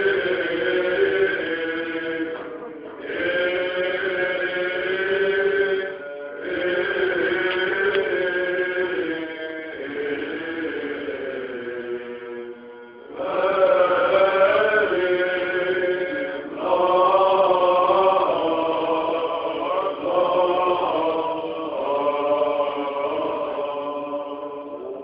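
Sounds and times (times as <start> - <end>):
men chanting in long held notes: 0.0 - 25.0.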